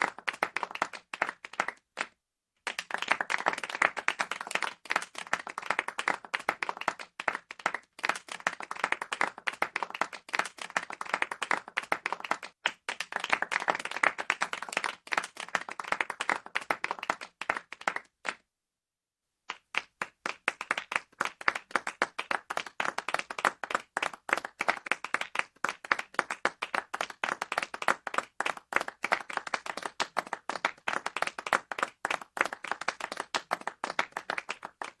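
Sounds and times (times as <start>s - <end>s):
small crowd clapping: 0.0s - 18.5s, 19.5s - 35.0s.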